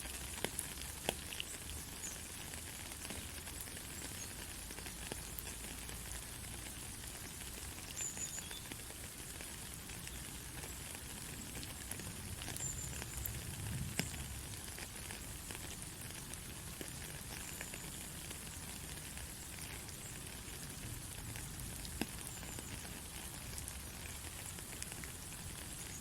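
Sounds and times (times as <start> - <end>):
sharp raindrop: 0.0 - 26.0
steady rain falling: 0.0 - 26.0.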